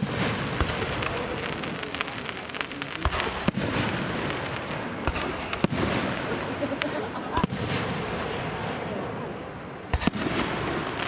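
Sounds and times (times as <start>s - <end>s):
firework bangs: 0.0s - 11.0s
fireworks crackling: 0.0s - 11.0s.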